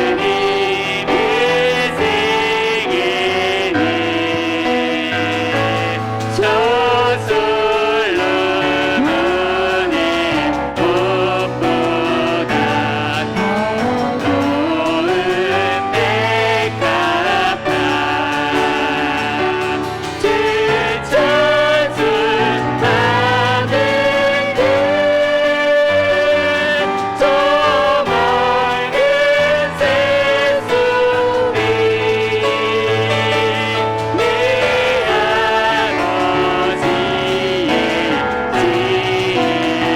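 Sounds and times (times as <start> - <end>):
group singing worship song: 0.0 - 39.9
piano accompaniment: 0.0 - 39.9.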